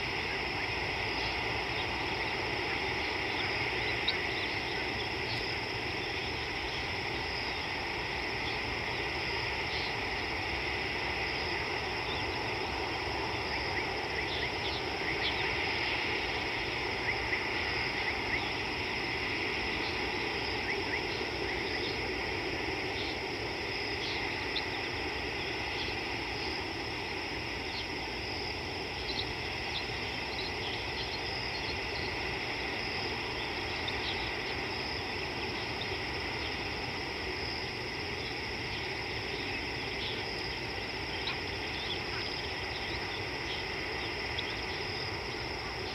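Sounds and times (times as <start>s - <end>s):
insect chorus chirring: 0.0s - 45.9s.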